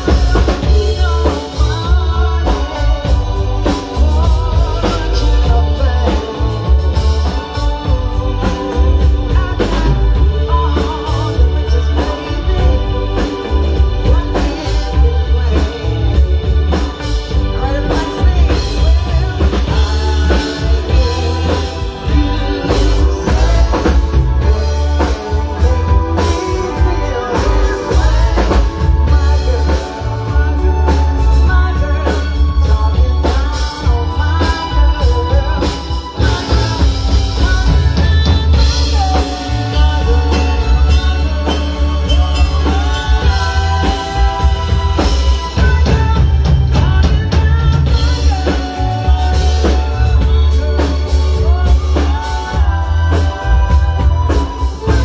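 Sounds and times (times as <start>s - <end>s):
drum kit: 0.0s - 55.0s
heavy bass line: 0.0s - 55.0s
live band playing: 0.0s - 55.0s.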